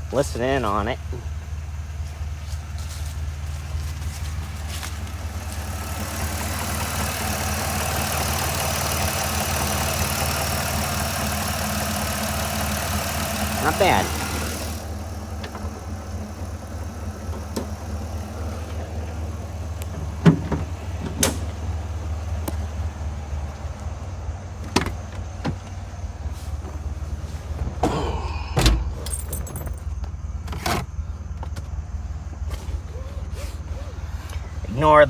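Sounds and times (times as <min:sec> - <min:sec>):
minivan engine idling: 0:00.0 - 0:35.0.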